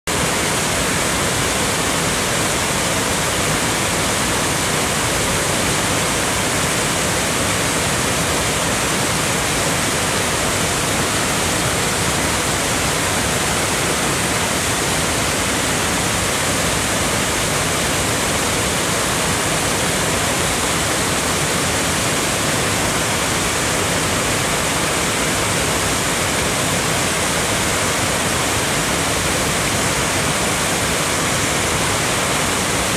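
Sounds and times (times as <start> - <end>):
waterfall rushing: 0.1 - 32.9.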